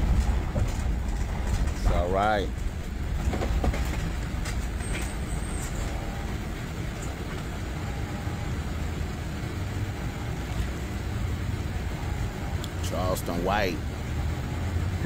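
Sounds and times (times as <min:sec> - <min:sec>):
ambulance road and engine rumble: 0:00.0 - 0:15.0.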